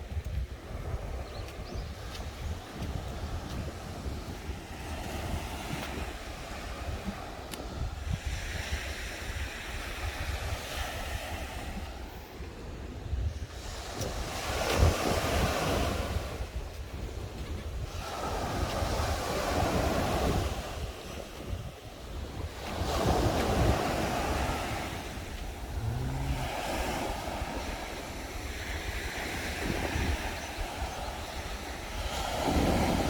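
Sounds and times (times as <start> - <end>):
sea waves breaking on shore: 0.0 - 33.0
wind rumbling on microphone: 0.0 - 33.0.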